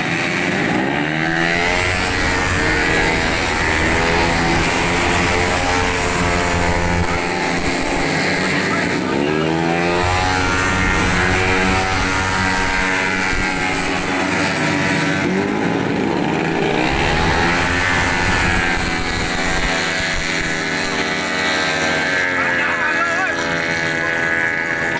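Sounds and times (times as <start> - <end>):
scooter engines revving: 0.0 - 24.9.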